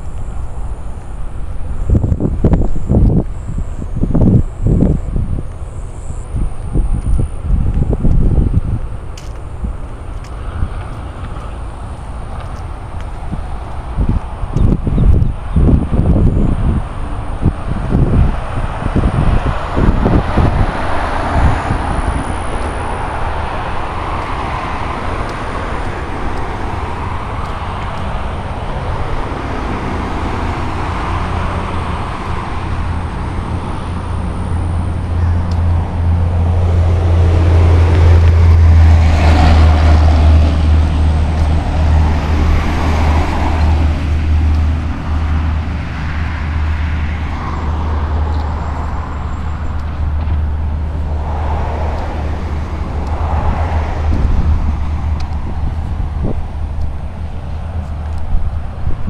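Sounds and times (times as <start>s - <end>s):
road traffic passing: 0.0s - 59.0s
vehicle passing close: 0.0s - 59.0s.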